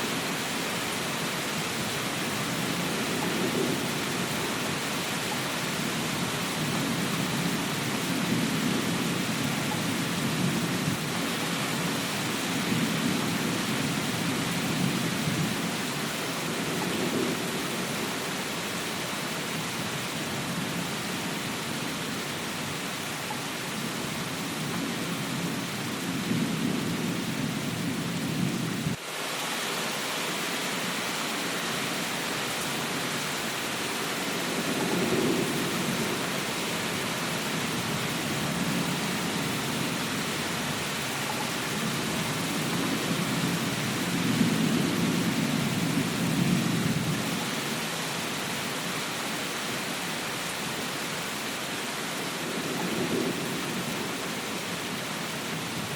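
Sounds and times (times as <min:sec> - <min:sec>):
heavy rain hiss: 0:00.0 - 0:55.9.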